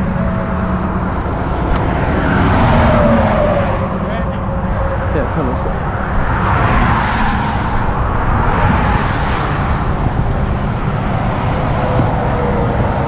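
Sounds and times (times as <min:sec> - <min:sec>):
highway traffic passing: 0:00.0 - 0:13.0
steady low rumble: 0:00.0 - 0:13.0.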